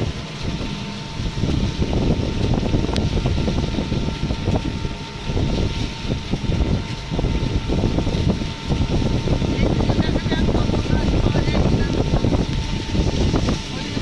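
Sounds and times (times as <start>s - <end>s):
electric rickshaw rumbling: 0.0s - 14.0s.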